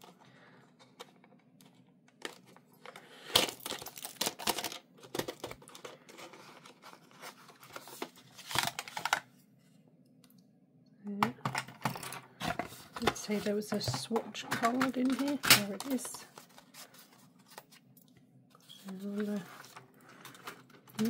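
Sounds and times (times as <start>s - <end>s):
paper crinkling and rustling: 0.0s - 9.3s, 12.4s - 21.0s.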